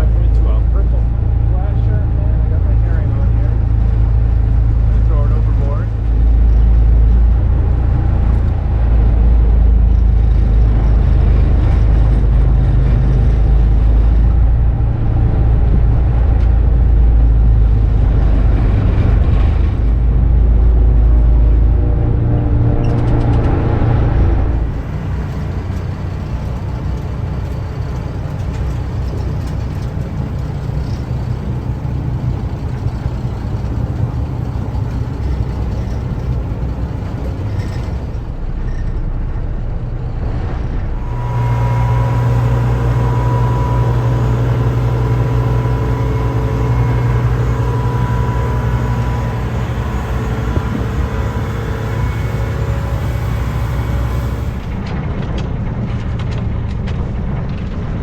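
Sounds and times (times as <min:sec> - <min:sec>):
boat engine running: 0:00.0 - 0:58.0
steady whine: 0:00.0 - 0:58.0.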